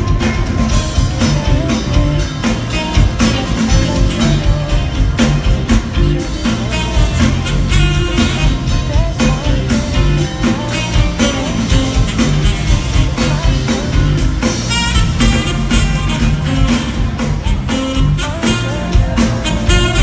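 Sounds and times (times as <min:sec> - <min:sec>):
saxophone lead melody: 0:00.0 - 0:20.0
smooth jazz band: 0:00.0 - 0:20.0.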